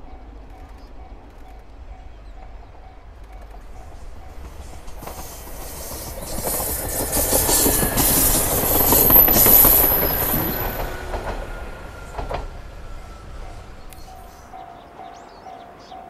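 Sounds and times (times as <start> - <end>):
diesel railcar passing: 0.0 - 16.0
wheels clattering over rail joints: 0.1 - 14.6.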